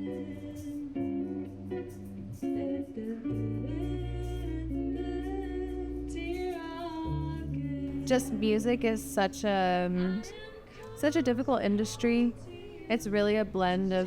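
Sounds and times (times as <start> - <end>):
plucked guitar music: 0.0 - 14.0.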